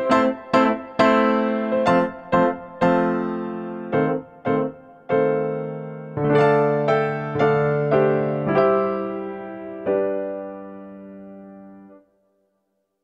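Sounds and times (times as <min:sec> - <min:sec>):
slow piano-like keyboard tune: 0:00.0 - 0:12.7.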